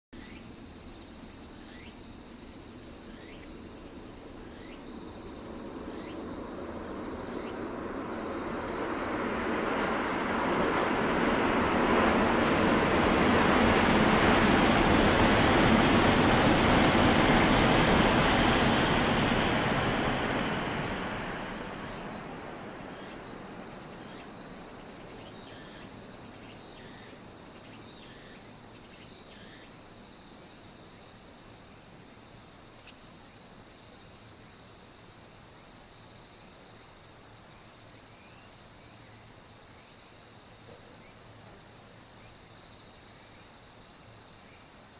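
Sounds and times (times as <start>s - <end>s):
insects chirping: 0.1s - 44.9s
train passing at speed: 0.6s - 44.9s.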